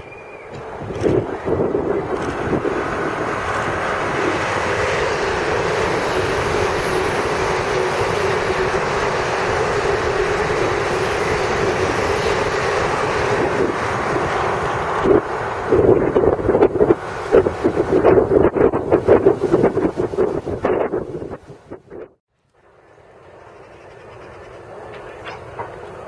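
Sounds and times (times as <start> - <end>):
trains passing at speed: 0.0 - 21.8, 22.5 - 26.0.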